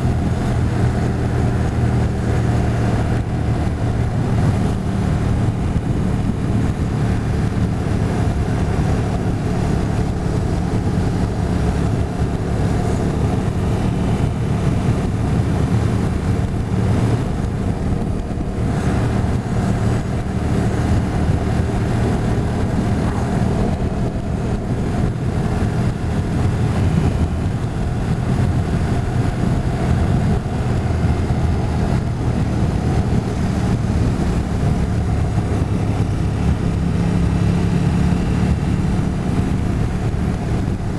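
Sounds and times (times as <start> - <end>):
motorcycle engine running: 0.0 - 40.9
road noise: 0.0 - 40.9
wind rushing: 0.0 - 40.9.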